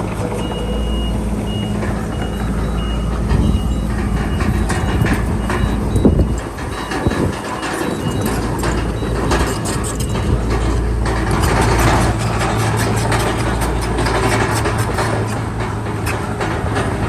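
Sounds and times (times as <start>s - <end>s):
bulldozer diesel engine running: 0.0s - 17.0s
steel crawler tracks clanking: 0.0s - 17.0s.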